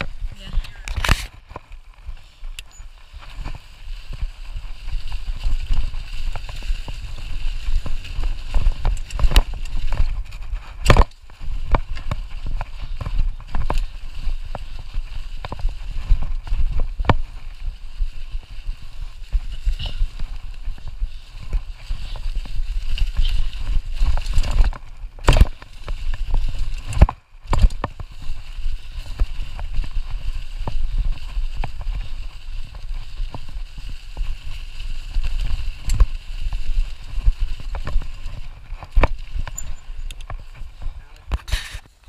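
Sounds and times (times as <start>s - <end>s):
bike rattling and knocking: 0.0s - 41.9s
bike hard jolt: 0.0s - 42.0s
tyres crackling through dry leaves: 0.0s - 42.0s.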